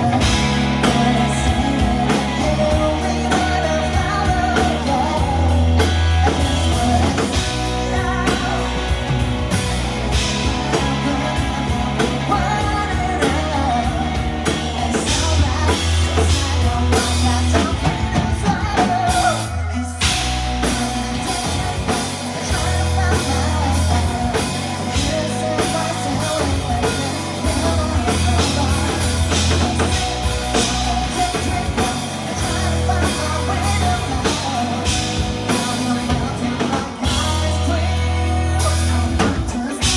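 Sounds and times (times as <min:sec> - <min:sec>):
bass: 0:00.0 - 0:39.9
drum kit: 0:00.0 - 0:39.9
electric guitar: 0:00.0 - 0:39.9
person singing: 0:00.0 - 0:39.9.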